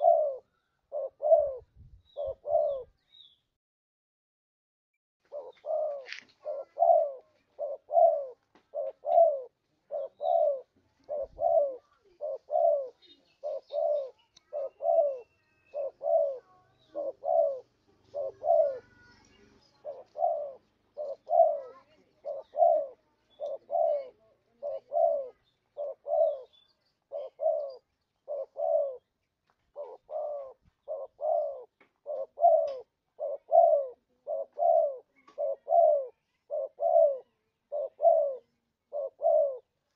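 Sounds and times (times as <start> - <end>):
dove cooing: 0.0 - 3.0, 5.2 - 29.1, 29.7 - 39.8.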